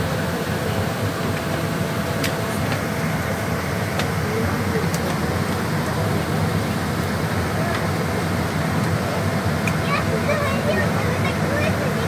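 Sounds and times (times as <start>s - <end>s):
airliner cabin hum: 0.0s - 12.0s
passengers' voices: 0.0s - 12.0s.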